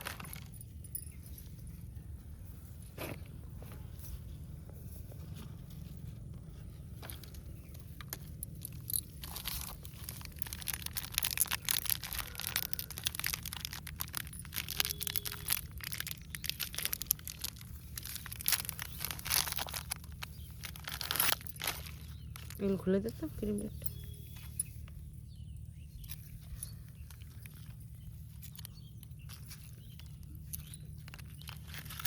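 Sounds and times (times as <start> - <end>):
crinkly material crunching: 0.0 - 32.0.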